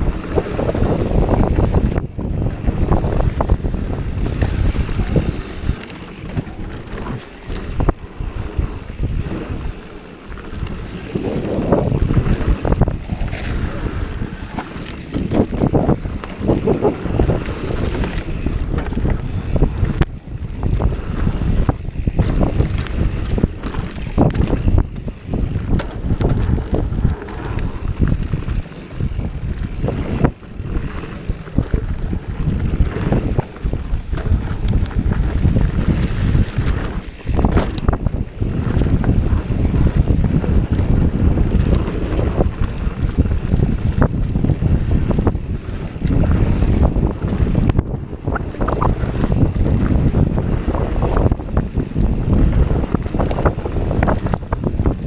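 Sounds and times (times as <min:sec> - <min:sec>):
bike knocks and rattles: 0:00.0 - 0:55.0
wind on microphone: 0:00.0 - 0:55.0.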